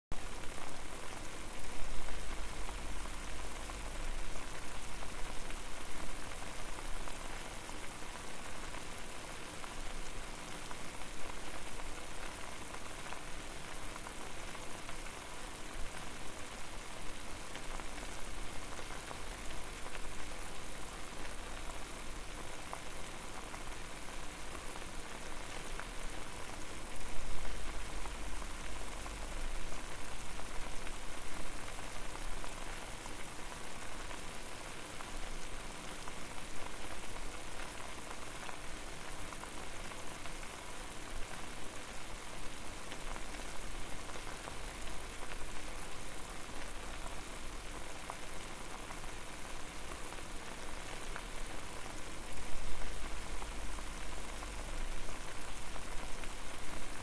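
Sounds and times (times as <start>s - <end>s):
water boiling and bubbling: 0.2s - 57.0s.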